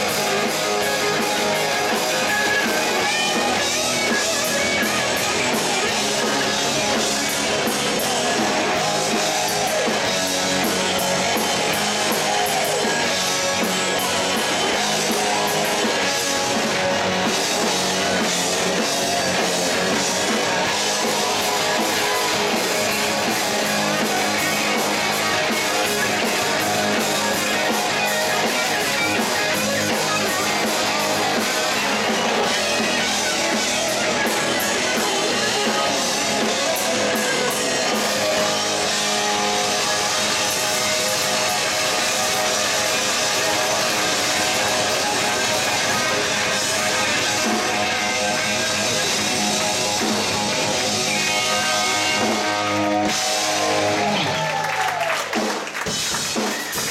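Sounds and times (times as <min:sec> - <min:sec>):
distorted electric guitars: 0:00.0 - 0:56.9
drum kit: 0:00.0 - 0:56.9.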